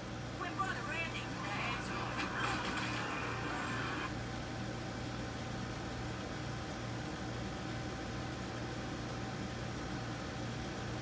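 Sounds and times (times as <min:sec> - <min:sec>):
steady low hum with hiss: 0:00.0 - 0:11.0.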